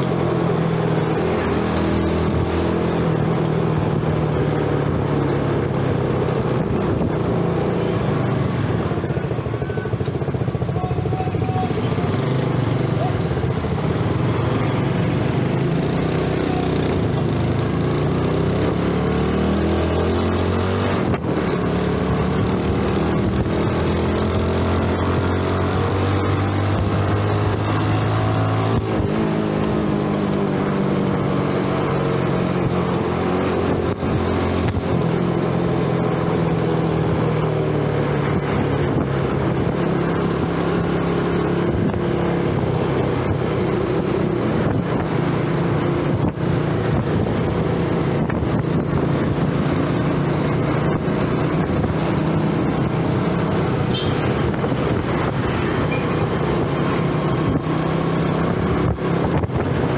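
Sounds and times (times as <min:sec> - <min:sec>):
motorcycle engine running: 0:00.0 - 0:59.9
road noise: 0:00.0 - 0:59.9
wind noise: 0:01.3 - 0:11.7, 0:19.4 - 0:59.9.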